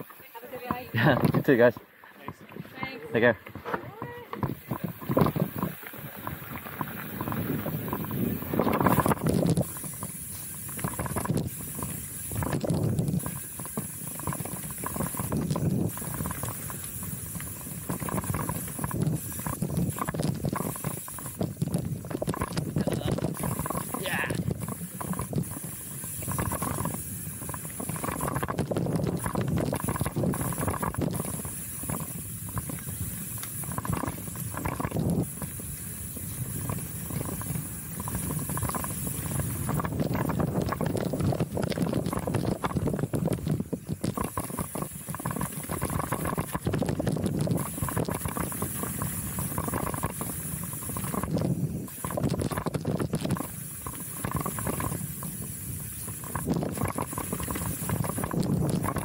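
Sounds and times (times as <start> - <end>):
bike rattling and knocking: 3.5 - 59.0
rush of air: 4.4 - 59.0.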